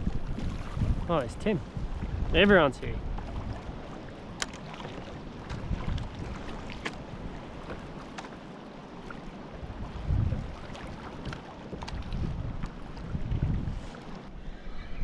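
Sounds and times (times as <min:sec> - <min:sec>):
small water splashes: 0:00.0 - 0:01.2, 0:02.9 - 0:14.2
wind buffeting microphone: 0:00.0 - 0:08.1, 0:09.0 - 0:15.0.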